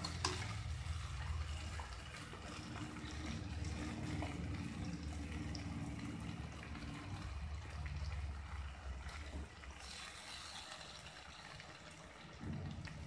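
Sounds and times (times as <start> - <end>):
paste bubbling and sputtering in oil: 0.0 - 13.0.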